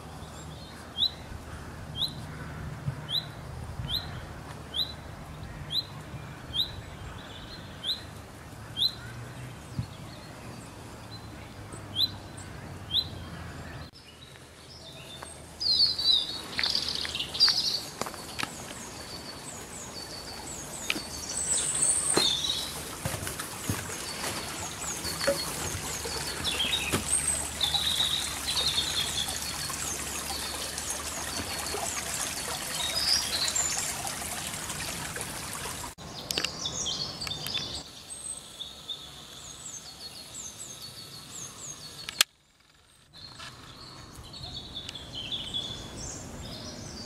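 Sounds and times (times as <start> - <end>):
songbirds singing and chirping: 0.0 - 34.5, 35.9 - 47.0
steady outdoor hiss: 0.0 - 47.0.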